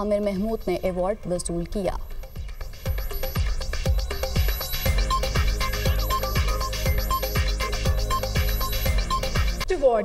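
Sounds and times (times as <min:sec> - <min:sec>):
electronic background music: 0:00.0 - 0:10.0.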